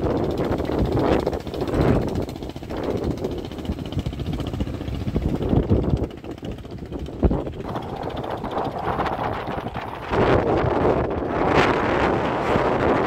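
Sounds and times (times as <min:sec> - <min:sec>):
boat engine running: 0:00.0 - 0:13.0
wind gusting on microphone: 0:00.0 - 0:13.0.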